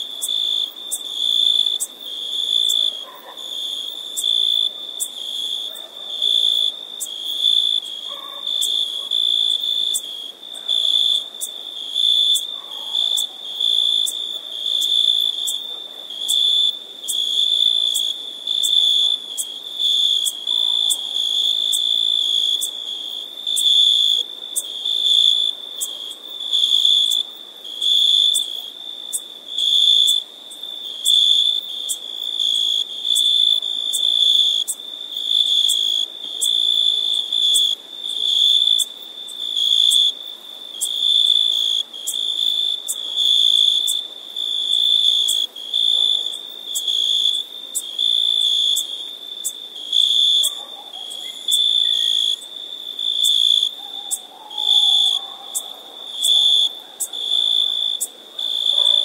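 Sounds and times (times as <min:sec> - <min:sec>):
cricket chirping: 0:00.0 - 0:59.0.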